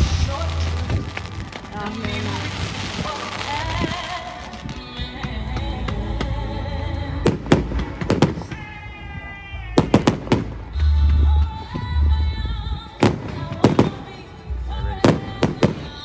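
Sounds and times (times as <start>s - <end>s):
fireworks bangs: 0.0s - 5.6s, 7.2s - 11.8s, 12.8s - 16.0s.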